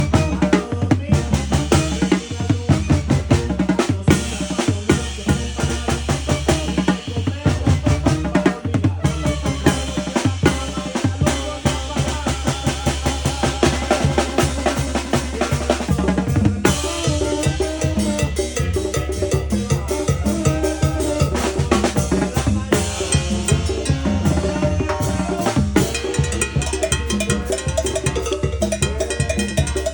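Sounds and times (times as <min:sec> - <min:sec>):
bass drum: 0:00.0 - 0:29.9
snare drum with rimshots: 0:00.0 - 0:29.9.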